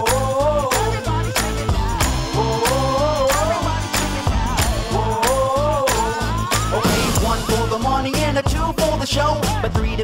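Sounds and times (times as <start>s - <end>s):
hip-hop music with heavy bass: 0.0s - 10.0s.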